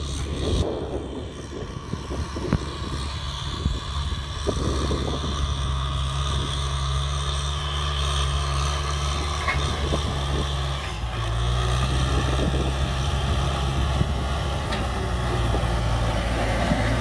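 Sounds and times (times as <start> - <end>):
diesel tractor engine running: 0.0 - 17.0.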